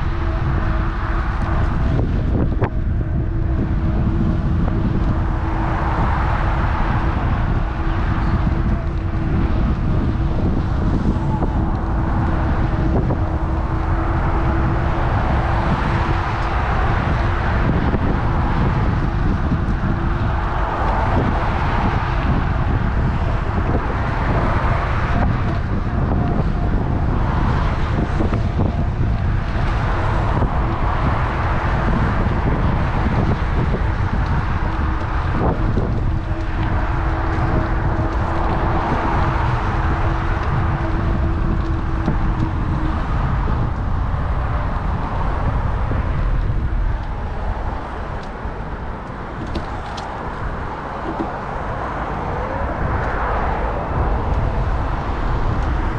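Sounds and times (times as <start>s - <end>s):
road traffic passing: 0.0s - 55.9s
steady hum: 0.0s - 55.9s
wind on microphone: 0.0s - 55.9s.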